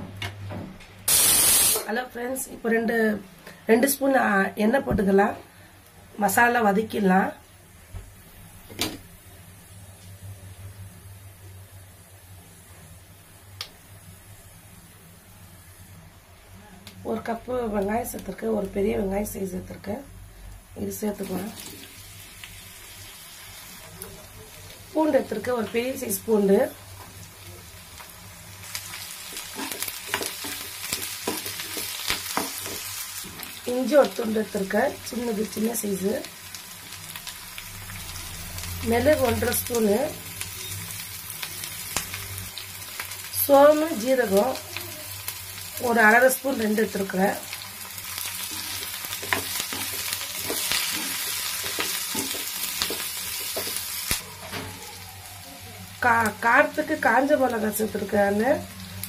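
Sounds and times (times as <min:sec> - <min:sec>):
onions sizzling in oil: 0:01.1 - 0:01.9, 0:03.7 - 0:59.0.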